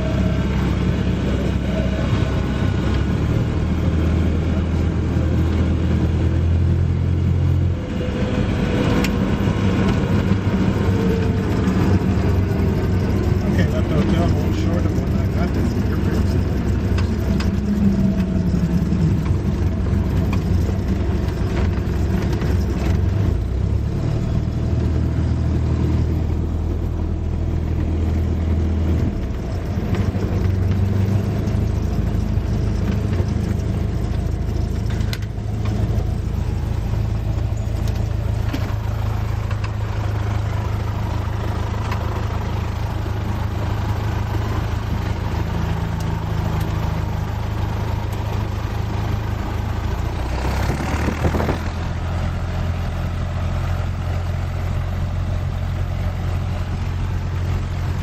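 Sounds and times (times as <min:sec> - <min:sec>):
airplane engine and propeller drone: 0:00.0 - 0:58.0.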